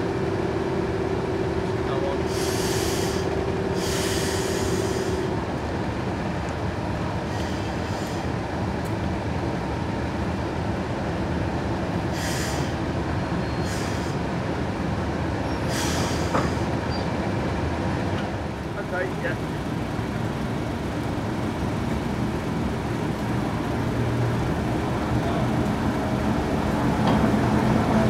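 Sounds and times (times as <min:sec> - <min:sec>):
diesel train rumbling: 0:00.0 - 0:28.0.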